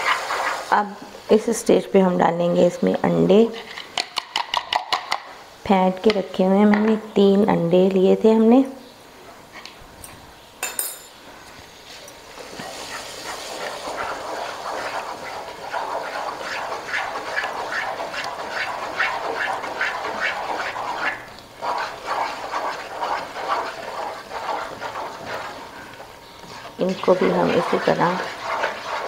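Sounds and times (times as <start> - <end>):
wooden spatula stirring wet mixture: 0.0 - 1.6, 2.5 - 7.4, 11.7 - 29.0.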